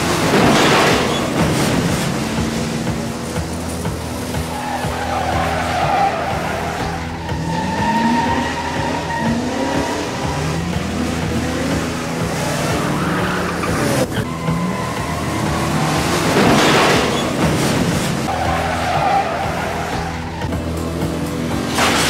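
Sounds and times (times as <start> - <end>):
tyre skid and squeal: 0.0 - 20.8
car engine accelerating: 0.0 - 22.0.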